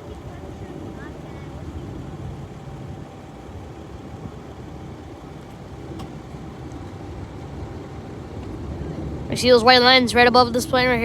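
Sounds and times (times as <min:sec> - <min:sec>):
faint steady tone: 0:00.0 - 0:11.0
jet engines rumbling: 0:00.0 - 0:11.0.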